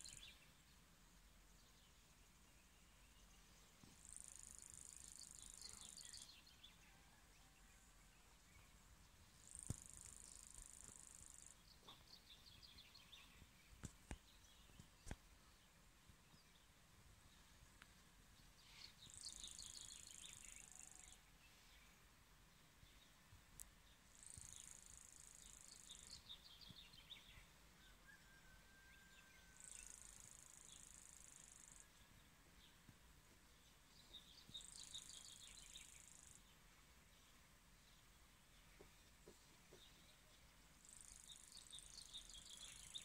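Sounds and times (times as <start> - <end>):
songbird buzzy trilling song: 0.0 - 0.6, 1.5 - 7.2, 7.8 - 16.8, 17.8 - 21.9, 22.9 - 32.8, 33.6 - 36.6, 37.2 - 43.0.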